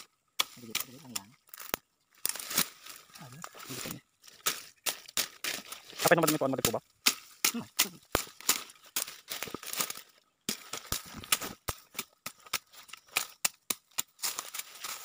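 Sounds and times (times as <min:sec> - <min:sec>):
twigs snapping: 0:00.4 - 0:03.6, 0:04.2 - 0:15.0
dry brush crackling: 0:00.4 - 0:15.0.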